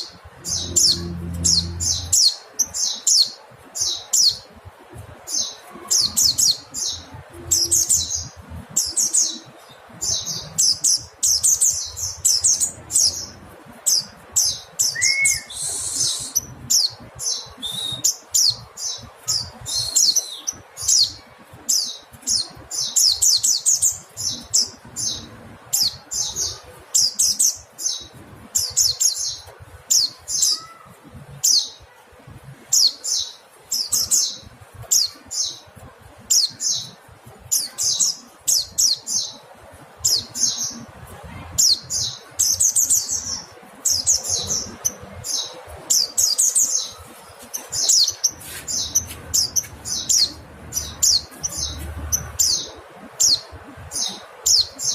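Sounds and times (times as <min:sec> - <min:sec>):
bird chirping: 0:00.0 - 0:04.6, 0:05.2 - 0:31.9, 0:41.6 - 0:54.9.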